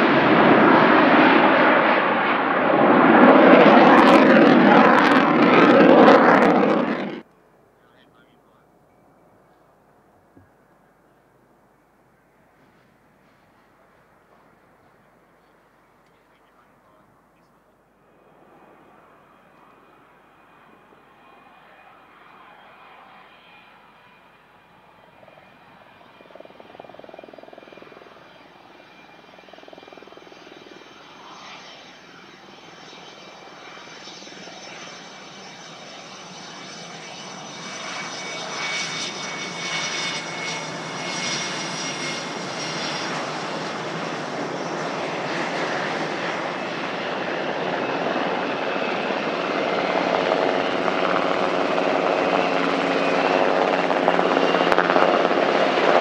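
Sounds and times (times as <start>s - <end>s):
jet engines whining: 0.0s - 8.6s, 12.2s - 56.0s
helicopter rotor hum: 0.0s - 10.0s, 12.2s - 56.0s.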